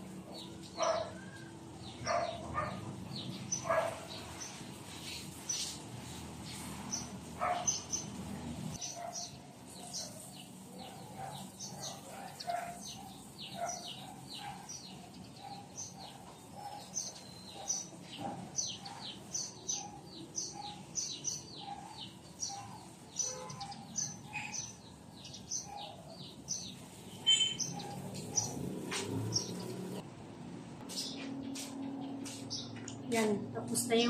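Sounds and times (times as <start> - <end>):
small birds chirping: 0.0 - 30.0, 30.8 - 34.0.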